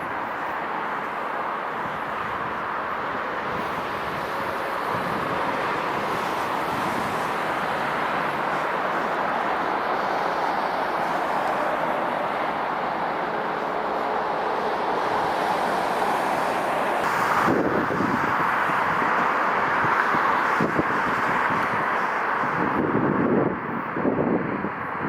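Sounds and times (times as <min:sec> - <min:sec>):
train passing: 0:00.0 - 0:22.8.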